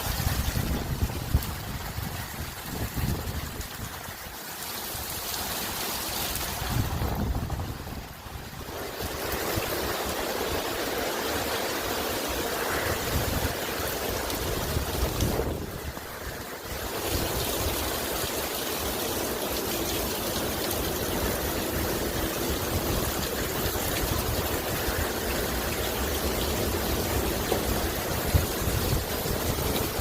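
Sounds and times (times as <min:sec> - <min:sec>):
wind buffeting microphone: 0:00.0 - 0:04.4, 0:06.4 - 0:11.6, 0:12.4 - 0:18.5, 0:20.6 - 0:30.0.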